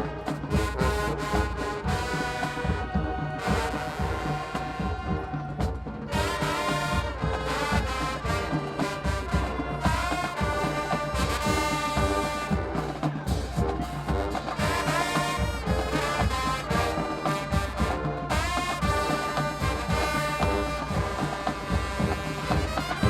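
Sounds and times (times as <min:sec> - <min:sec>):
brass playing: 0:00.0 - 0:23.0
drumline beat: 0:00.0 - 0:23.0.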